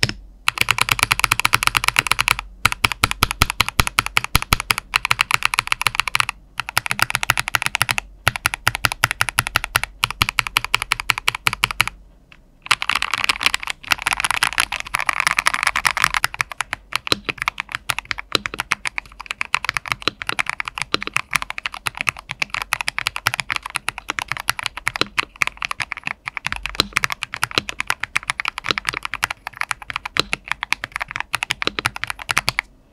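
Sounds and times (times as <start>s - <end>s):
typing on mechanical keyboard: 0.0s - 12.0s, 12.6s - 32.7s.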